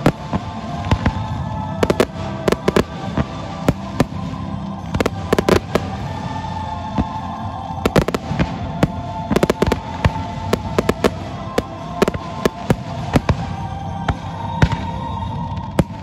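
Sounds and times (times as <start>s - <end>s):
fireworks bursting with sharp bangs: 0.0s - 16.0s
music playing: 0.0s - 16.0s.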